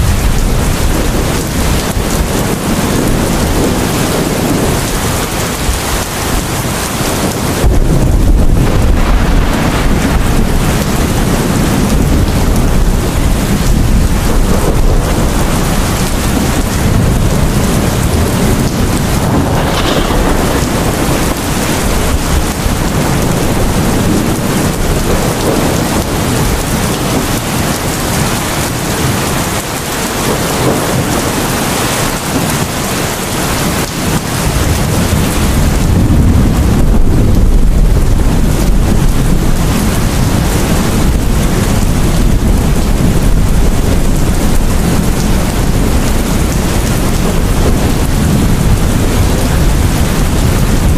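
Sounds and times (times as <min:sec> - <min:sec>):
heavy rain pouring: 0:00.0 - 0:50.9
rolling thunder: 0:00.0 - 0:50.9.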